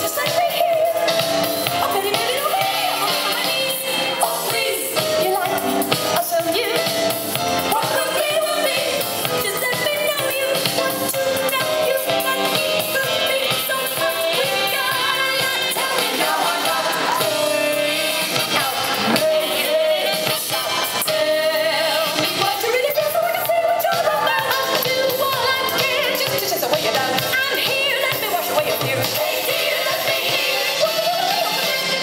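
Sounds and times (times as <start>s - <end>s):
song with singer and instruments: 0.0s - 32.0s.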